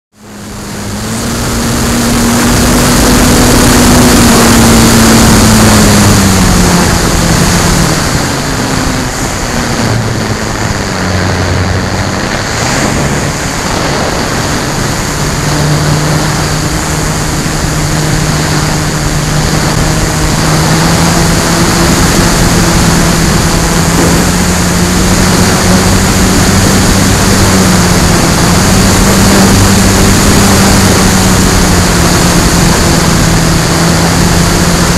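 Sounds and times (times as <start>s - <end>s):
model plane motor and propeller drone: 0.2s - 34.9s
wind rush over camera: 0.2s - 34.9s.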